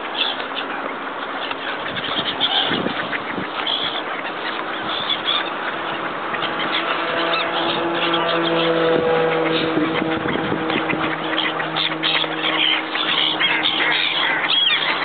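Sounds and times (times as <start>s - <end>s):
birds calling: 0.0s - 15.0s
steady engine drone: 0.0s - 15.0s.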